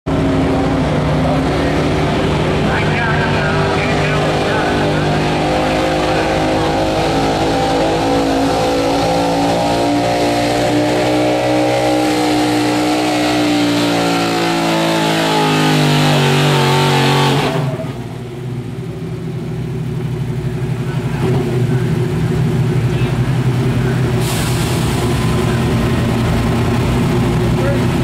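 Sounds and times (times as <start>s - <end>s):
pickup engine at full throttle: 0.0s - 28.0s.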